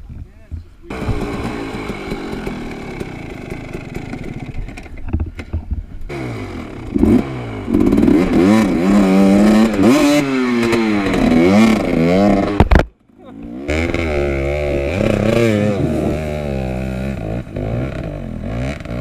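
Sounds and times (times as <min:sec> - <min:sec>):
dirt bike engine revving: 0:00.9 - 0:19.0.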